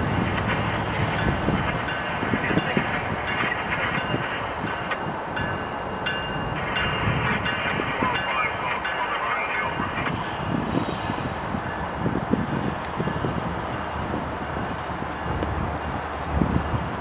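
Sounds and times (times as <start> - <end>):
locomotive engine running: 0.0 - 17.0
wheels clattering on rails: 0.0 - 17.0.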